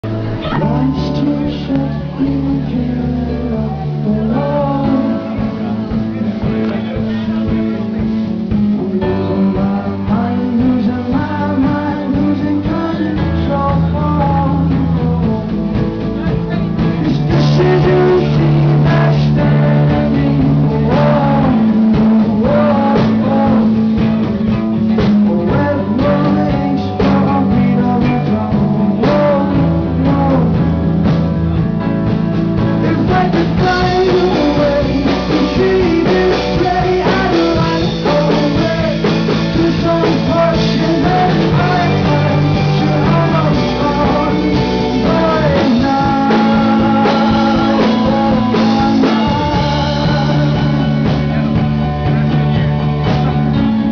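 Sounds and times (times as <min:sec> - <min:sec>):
person singing: 0:00.0 - 0:31.6, 0:32.6 - 0:53.9
rock or blues guitar: 0:00.0 - 0:53.9.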